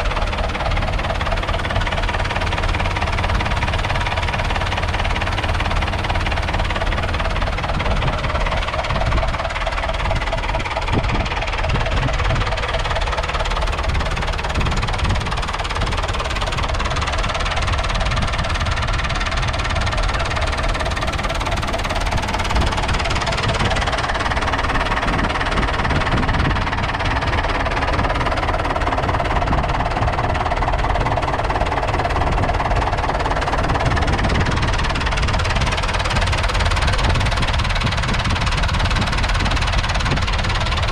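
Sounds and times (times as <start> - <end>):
diesel tractor engine idling: 0.0 - 40.9.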